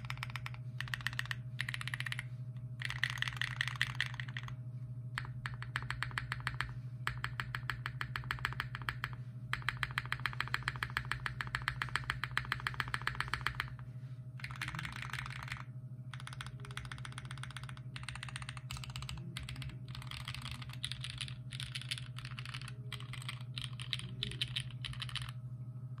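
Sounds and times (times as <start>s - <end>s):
mechanical keyboard typing: 0.0s - 4.6s, 5.2s - 13.8s, 14.4s - 25.4s.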